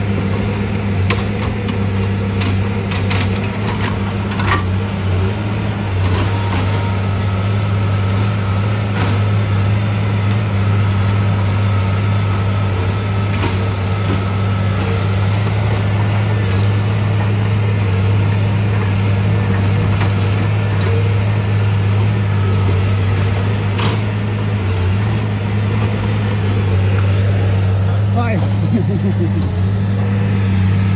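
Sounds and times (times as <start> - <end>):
diesel engine running under load: 0.0 - 30.9.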